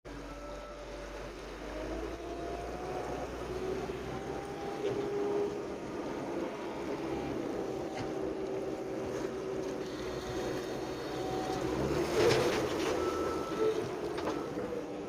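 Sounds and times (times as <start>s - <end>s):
skid steer engine running: 0.1s - 15.0s.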